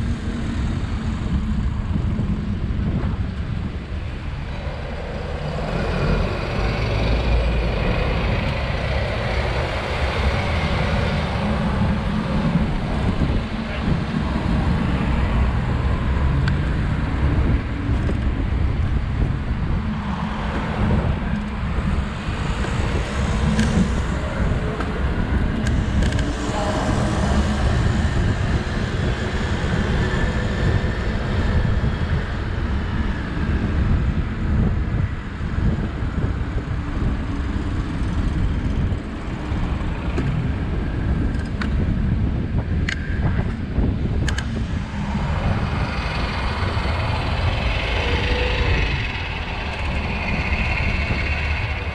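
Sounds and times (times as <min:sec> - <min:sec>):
road traffic: 0:00.0 - 0:51.9
wind buffeting microphone: 0:00.0 - 0:51.9.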